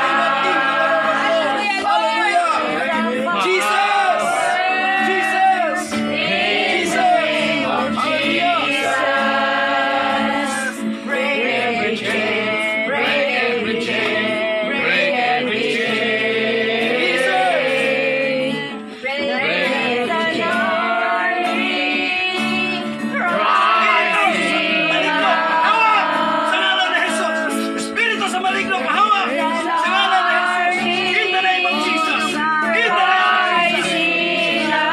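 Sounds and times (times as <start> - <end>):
group singing a worship song: 0.0 - 34.9.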